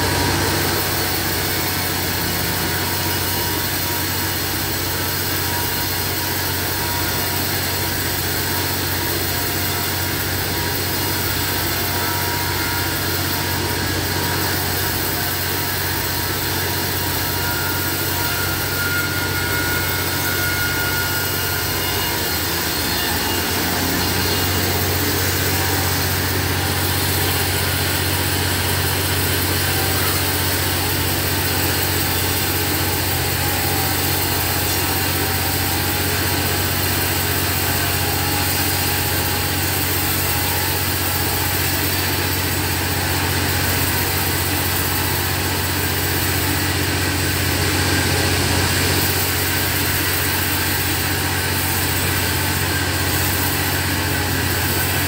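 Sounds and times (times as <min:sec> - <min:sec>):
bandsaw motor droning: 0:00.0 - 0:55.0.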